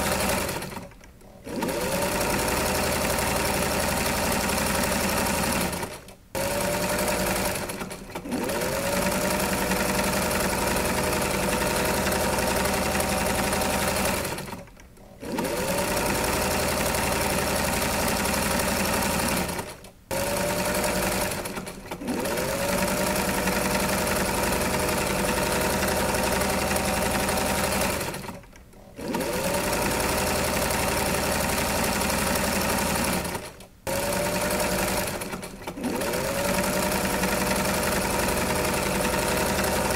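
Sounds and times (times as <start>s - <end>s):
electric sewing machine running: 0.0s - 39.9s.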